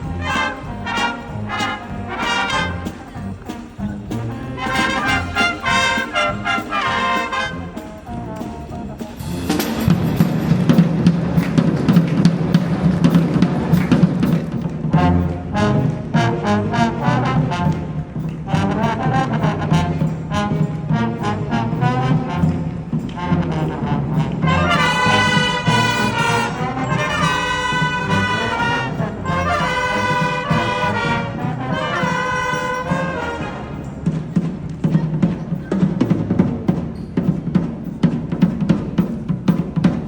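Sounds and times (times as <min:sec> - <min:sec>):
held brass chords: 0:00.0 - 0:36.8
brass band playing: 0:00.0 - 0:40.0
drums: 0:00.0 - 0:40.0.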